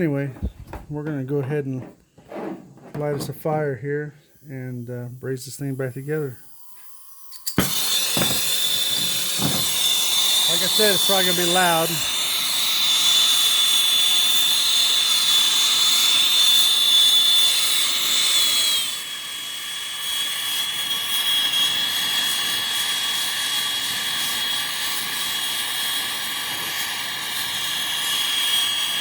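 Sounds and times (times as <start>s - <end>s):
torch flame hissing and whistling: 4.3s - 29.0s.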